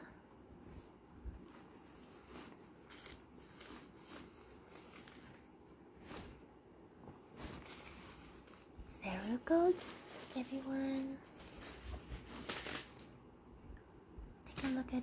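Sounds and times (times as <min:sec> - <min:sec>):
fabric bag rustling: 0:00.6 - 0:13.2.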